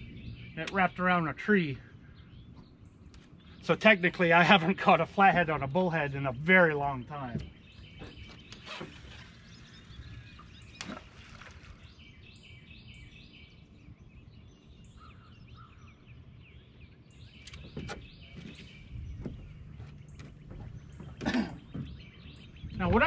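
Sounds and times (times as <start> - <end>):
wind rumble on microphone: 0.0 - 3.6, 7.0 - 23.0
birds chirping: 0.0 - 23.0.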